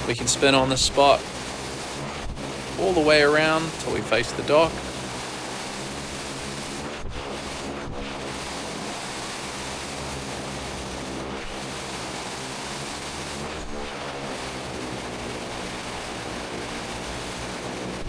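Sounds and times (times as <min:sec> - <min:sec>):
turboprop engine running: 0:00.0 - 0:18.0.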